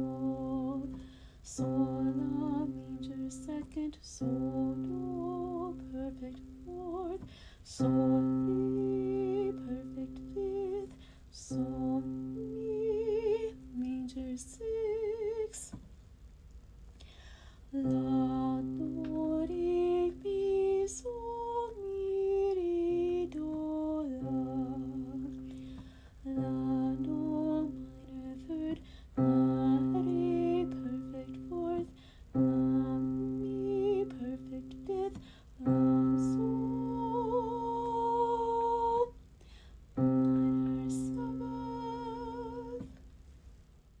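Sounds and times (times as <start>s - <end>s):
woman singing scales: 0.0s - 15.8s, 17.7s - 39.2s, 39.9s - 43.0s.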